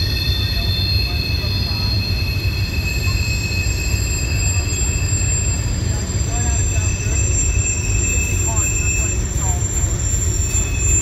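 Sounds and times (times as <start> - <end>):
train rumbling: 0.0 - 11.0
train wheels squealing: 0.0 - 11.0.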